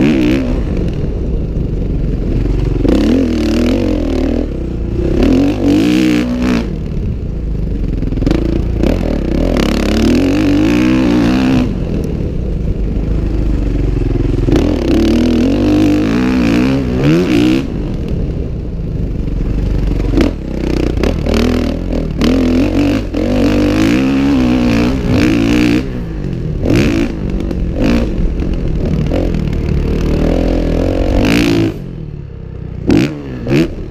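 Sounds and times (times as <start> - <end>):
dirt bike engine revving: 0.0 - 1.3, 2.1 - 7.2, 7.8 - 18.4, 19.4 - 33.9.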